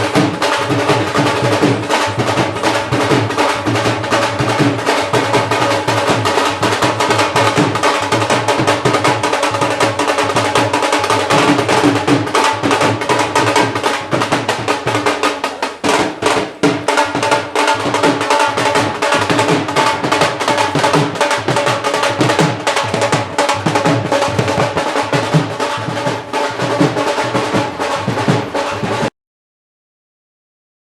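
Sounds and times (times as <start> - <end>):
dhol drums fast beat: 0.0 - 29.1.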